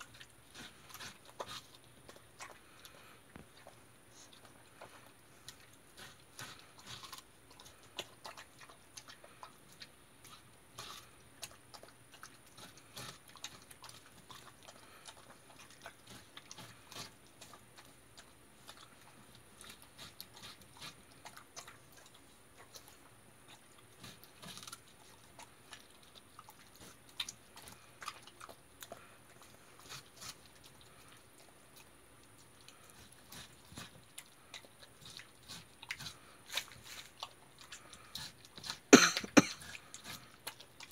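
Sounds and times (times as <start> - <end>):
dog chewing watermelon rind: 0.0 - 40.9.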